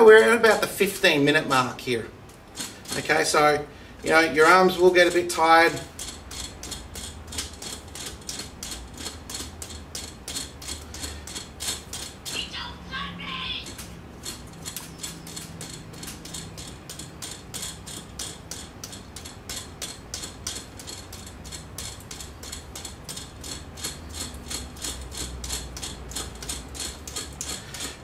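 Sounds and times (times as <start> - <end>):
serving jig ticking: 4.1 - 12.4, 13.6 - 28.0.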